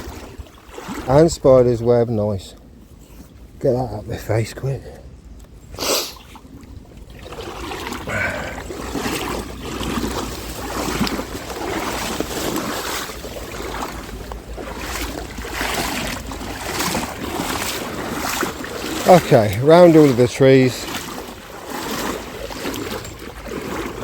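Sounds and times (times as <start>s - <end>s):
water splashing from wading: 0.0s - 2.1s, 5.7s - 24.0s.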